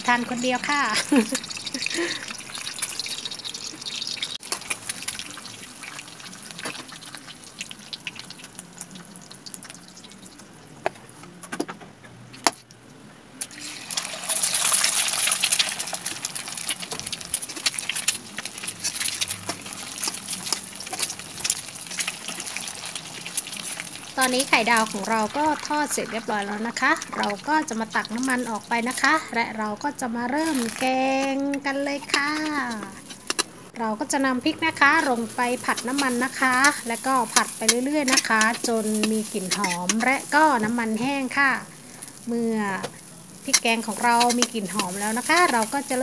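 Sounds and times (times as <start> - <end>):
eggs sizzling in oil: 0.0 - 10.9, 13.4 - 46.0.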